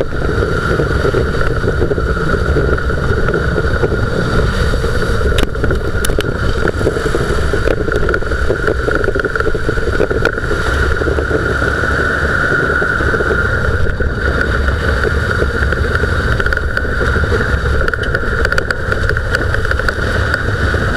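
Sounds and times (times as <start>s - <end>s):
wheel bearing and tyre rumble: 0.0s - 20.9s.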